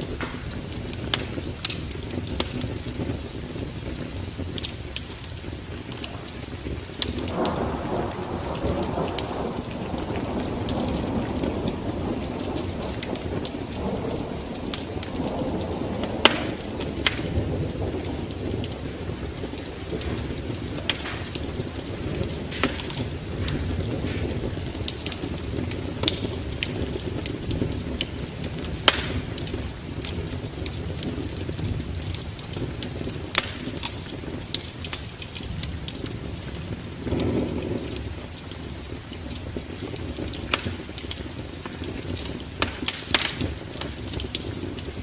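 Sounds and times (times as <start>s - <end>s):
low rumble of fire: 0.0s - 45.0s
wood fire crackling and popping: 0.0s - 45.0s.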